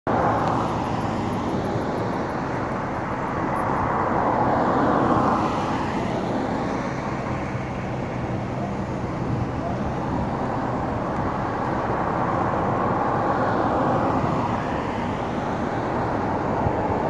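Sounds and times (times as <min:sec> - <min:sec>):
steady traffic noise: 0:00.0 - 0:17.0.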